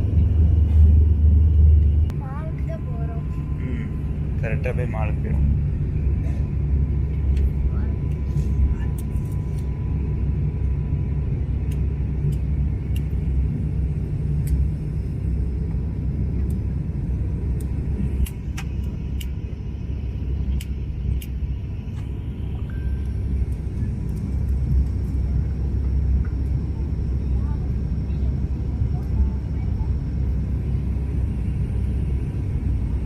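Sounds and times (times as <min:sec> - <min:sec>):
airliner engines rumbling: 0:00.0 - 0:33.0
rushing air in cabin: 0:00.0 - 0:33.0.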